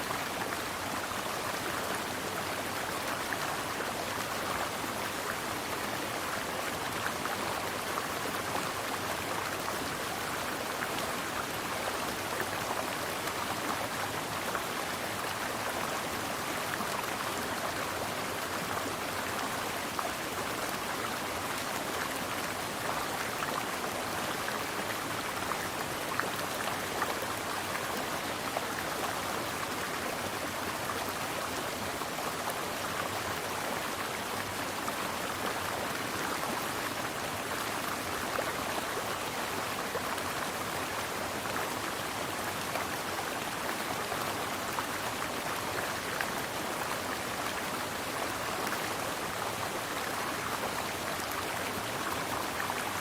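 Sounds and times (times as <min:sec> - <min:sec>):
stream water rushing and splashing: 0:00.0 - 0:53.0.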